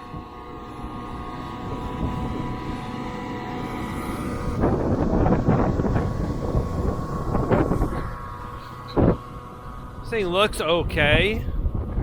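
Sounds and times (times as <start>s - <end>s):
generator engine humming: 0.0s - 12.0s
wind buffeting microphone: 0.0s - 12.0s.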